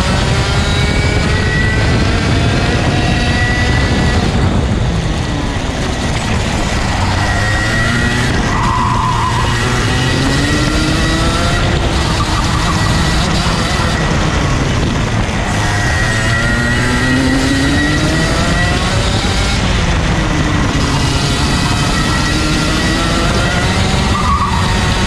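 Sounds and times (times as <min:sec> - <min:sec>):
kart engine running hard: 0:00.0 - 0:25.0
dense rushing noise: 0:00.8 - 0:22.2.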